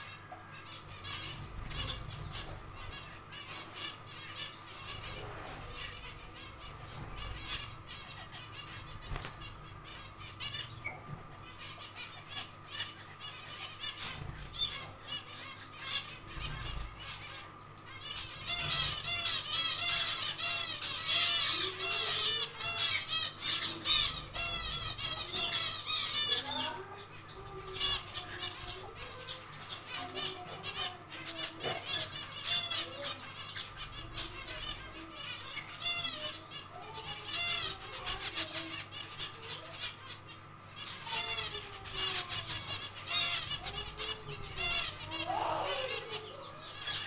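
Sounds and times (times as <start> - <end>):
finches chirping: 0.0 - 47.0.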